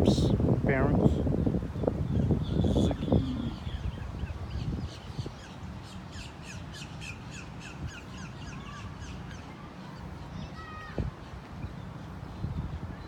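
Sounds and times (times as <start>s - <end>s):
birds chirping: 1.3s - 13.0s.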